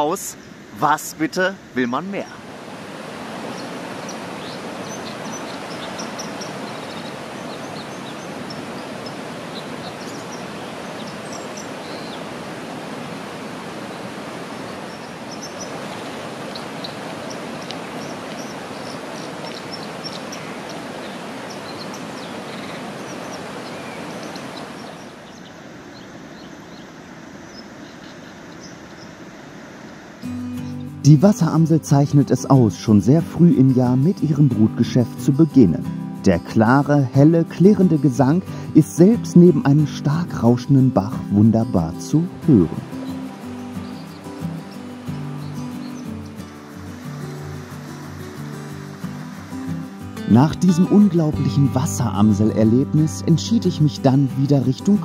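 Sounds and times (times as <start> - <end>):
stream rushing: 0.0 - 55.0
bird singing clinking song: 3.4 - 12.3, 14.5 - 29.2, 32.5 - 48.8, 50.3 - 55.0.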